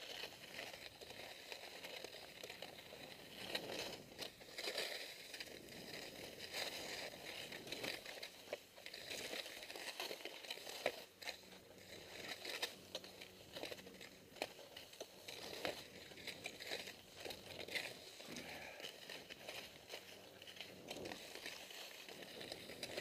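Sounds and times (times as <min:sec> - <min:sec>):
skis scraping over snow: 0:00.0 - 0:23.0.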